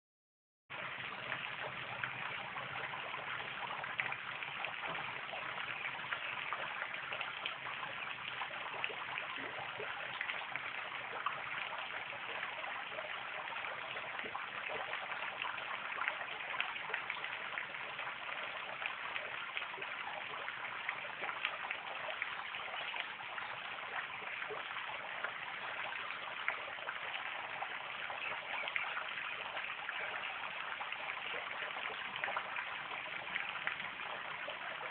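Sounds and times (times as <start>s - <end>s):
fountain splashing: 0.7s - 34.9s.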